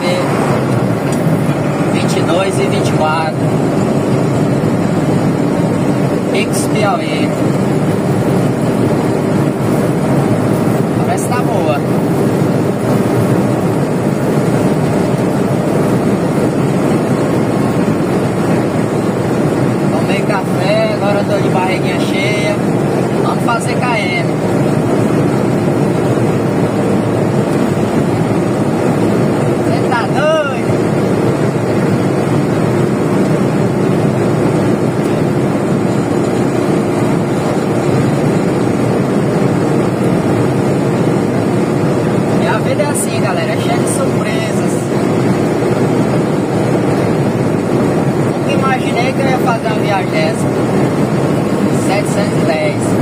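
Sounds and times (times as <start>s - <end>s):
truck engine and road noise: 0.0s - 53.0s.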